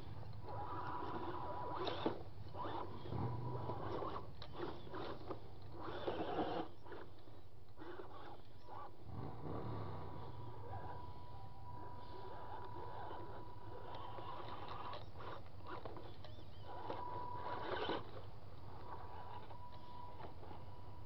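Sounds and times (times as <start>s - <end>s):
toy car motor and gears humming: 0.0s - 21.0s.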